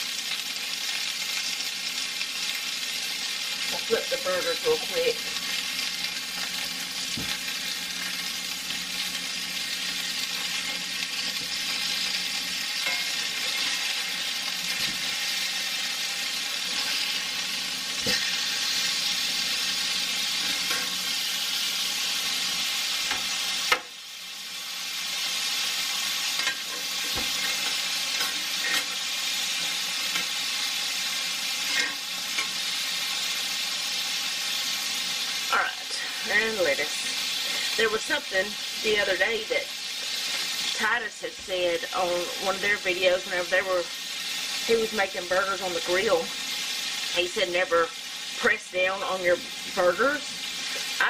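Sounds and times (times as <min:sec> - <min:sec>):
patties sizzling: 0:00.0 - 0:51.0.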